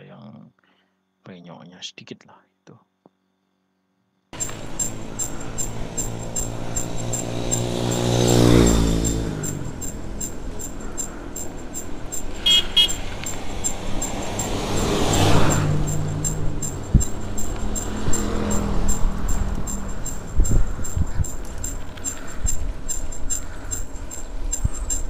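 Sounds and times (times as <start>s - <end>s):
bike disc brake squeaking: 4.4s - 25.0s
motor vehicle passing: 4.4s - 25.0s.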